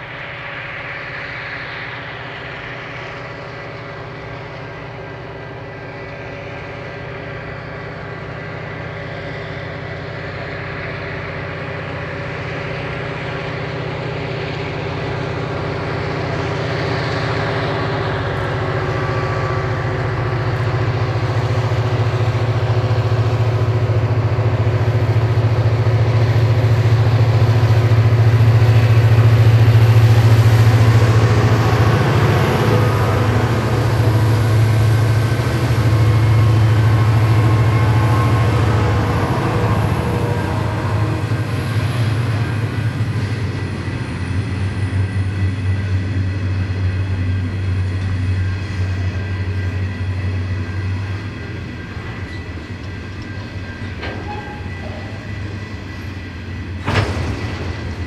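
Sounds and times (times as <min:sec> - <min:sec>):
diesel train engine drone: 0:00.0 - 0:58.0
train wheels clicking over rails: 0:00.0 - 0:58.0.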